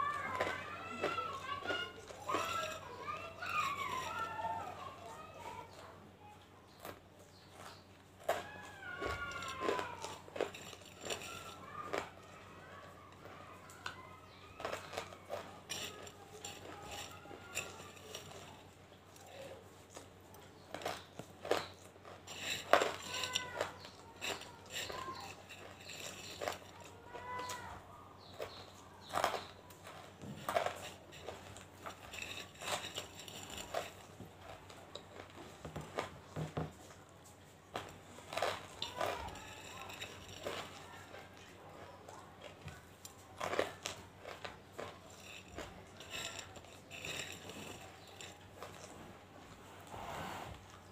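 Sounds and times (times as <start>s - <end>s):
crunching hard pieces: 0.0s - 5.9s, 6.7s - 49.6s.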